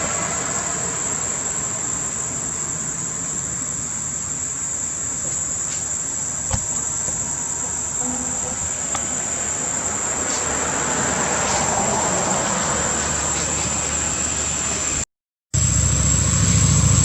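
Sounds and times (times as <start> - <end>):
insects droning: 0.0 - 15.0, 15.6 - 17.0.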